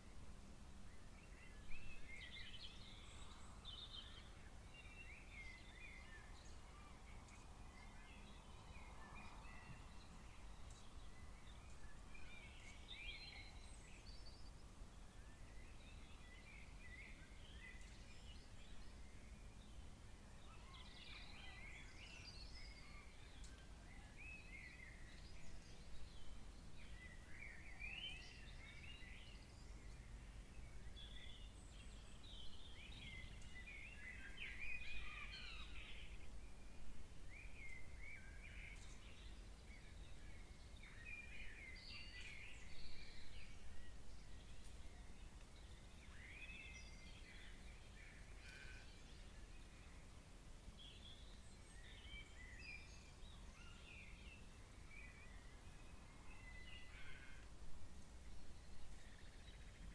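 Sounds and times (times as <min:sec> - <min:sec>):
birds chirping faintly: 0:00.0 - 0:59.9.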